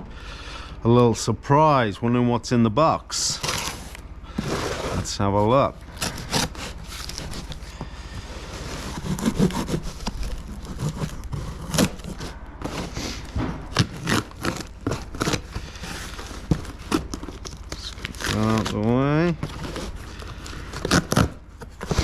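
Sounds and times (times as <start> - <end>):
cardboard box scraping and rubbing: 3.4 - 22.0.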